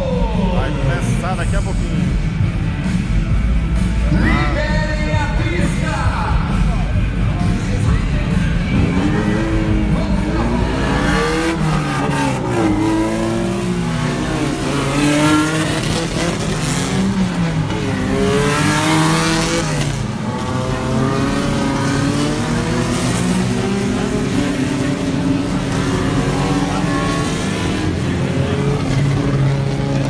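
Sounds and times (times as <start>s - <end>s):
racing car engines revving: 0.0s - 30.0s.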